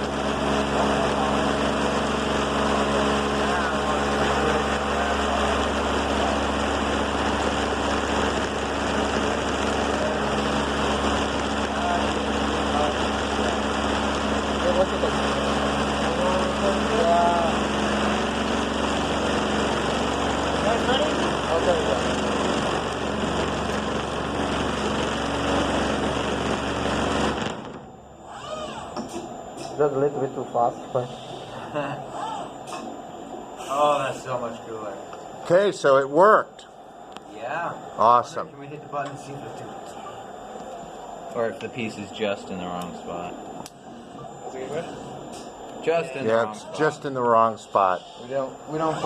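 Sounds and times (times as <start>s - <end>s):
air compressor running: 0.0s - 49.0s.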